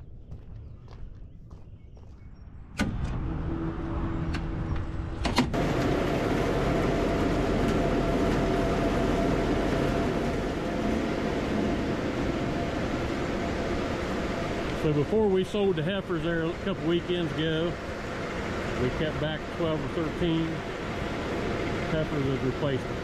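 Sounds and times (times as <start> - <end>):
mechanical whir with hum: 0.0 - 23.0.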